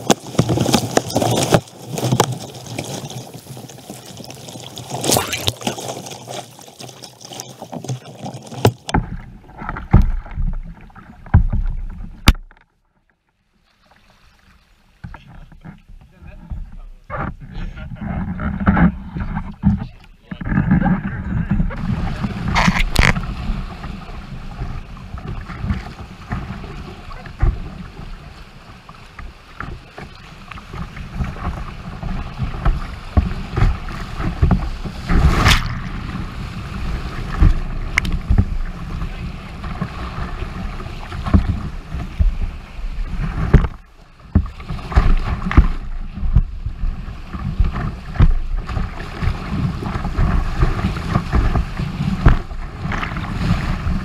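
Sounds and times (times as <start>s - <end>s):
water splashing against hull: 0.0s - 12.8s, 13.6s - 54.0s.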